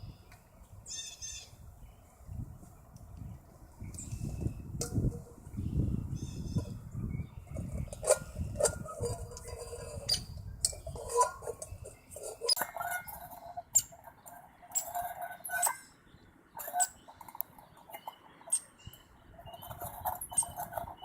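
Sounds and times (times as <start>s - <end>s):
birds calling: 0.0s - 2.2s, 3.2s - 21.0s.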